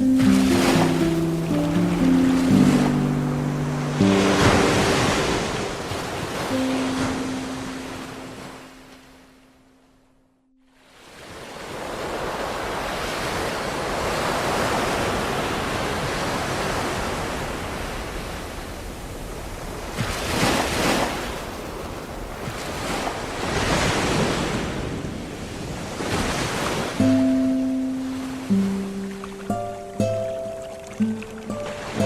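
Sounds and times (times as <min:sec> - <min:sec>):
ocean waves washing in: 0:00.0 - 0:32.0.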